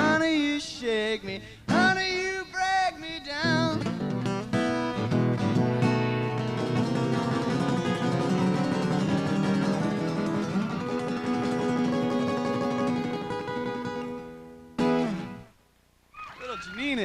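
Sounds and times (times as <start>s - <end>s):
acoustic guitar playing: 0.0s - 15.6s.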